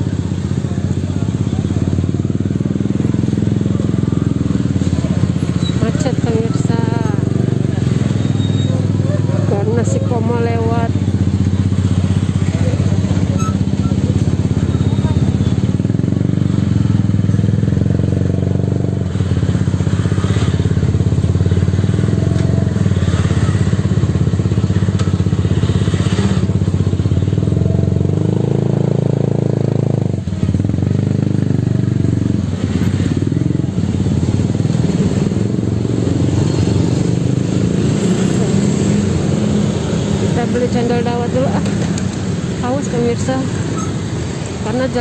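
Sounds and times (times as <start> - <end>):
auto rickshaw engine idling: 0.0 - 45.0
motorcycle engines: 0.0 - 45.0.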